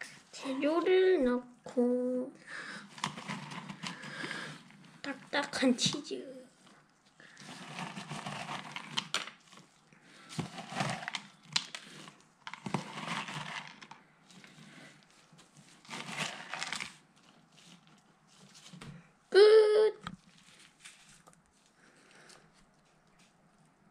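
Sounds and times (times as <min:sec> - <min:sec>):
plastic tub rustling: 0:02.8 - 0:19.0, 0:20.2 - 0:23.3
plastic gloves crinkling: 0:02.8 - 0:19.2, 0:20.1 - 0:23.9.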